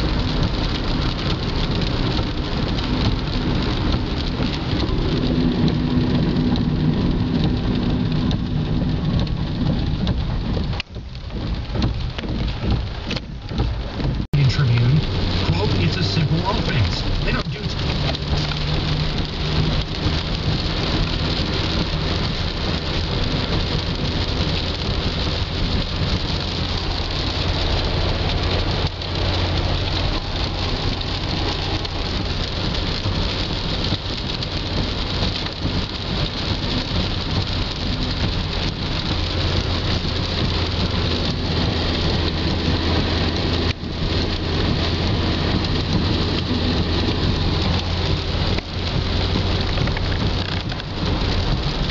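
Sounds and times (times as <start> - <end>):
car driving on wet road: 0.0 - 51.9
heavy rain on car roof: 0.0 - 51.9.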